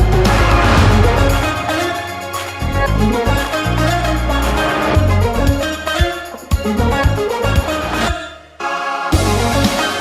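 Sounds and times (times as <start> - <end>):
electronic beat music: 0.0 - 8.3, 9.1 - 10.0.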